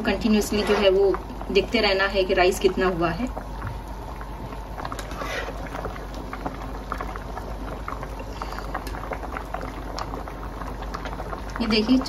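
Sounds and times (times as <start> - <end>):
rice bubbling in boiling water: 0.0 - 12.0.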